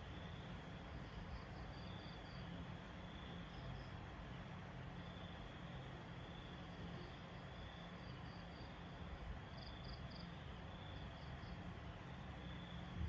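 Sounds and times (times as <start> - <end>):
faint steady hiss: 0.0 - 13.0
insects chirping: 0.0 - 13.0.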